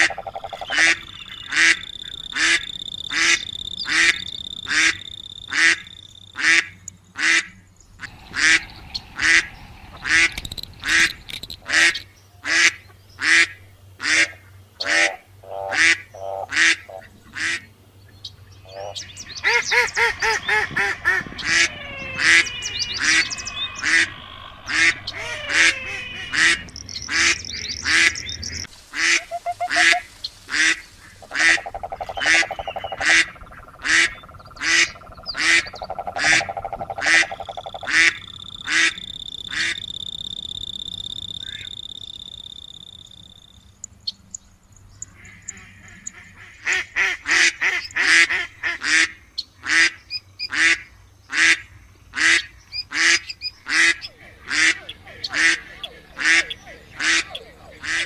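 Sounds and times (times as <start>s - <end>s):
ducks quacking: 0.0s - 17.7s, 18.6s - 39.8s, 45.1s - 58.0s.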